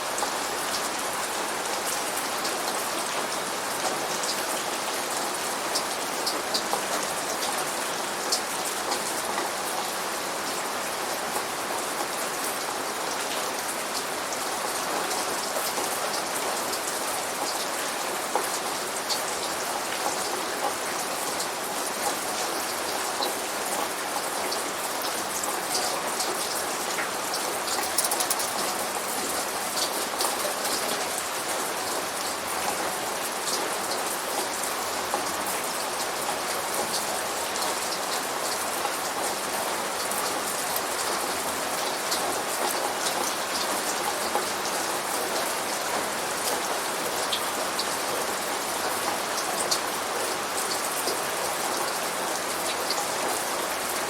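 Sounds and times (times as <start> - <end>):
steady rain hiss: 0.0 - 54.0
rain drops ticking: 0.1 - 54.0.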